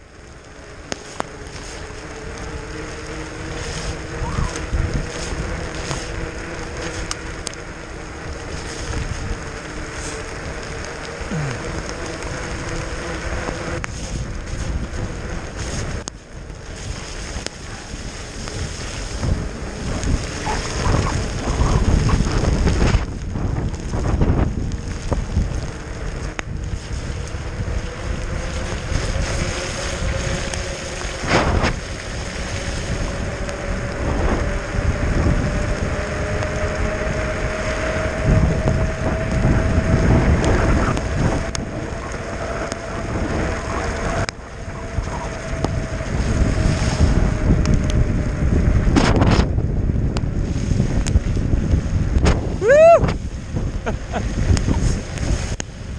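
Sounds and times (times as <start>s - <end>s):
faint rising whine: 0.0s - 21.8s, 25.6s - 51.2s
tyres rumbling on rough trail: 0.0s - 55.9s
wind buffeting microphone: 0.0s - 55.9s.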